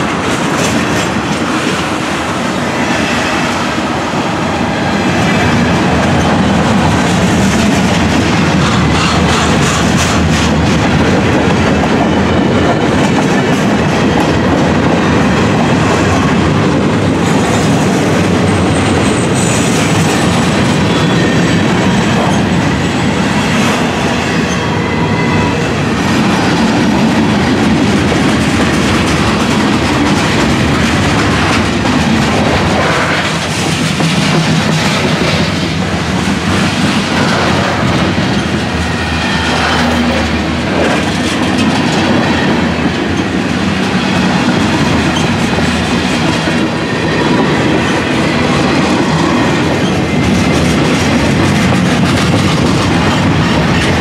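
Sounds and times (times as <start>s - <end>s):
freight train wheels clattering on rails: 0.0s - 54.0s.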